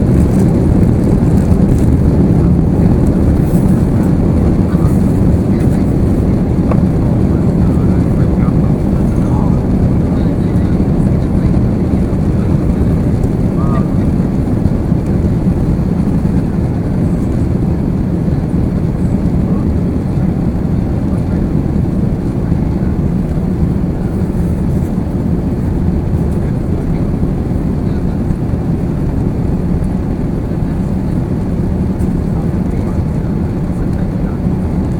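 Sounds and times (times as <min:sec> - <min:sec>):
aircraft cabin low rumble: 0:00.0 - 0:34.9.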